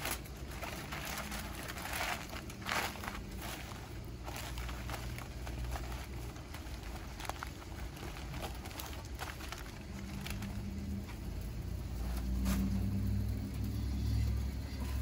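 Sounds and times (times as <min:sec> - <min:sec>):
aluminium foil crinkling: 0:00.0 - 0:15.0
low steady hum: 0:00.0 - 0:15.0.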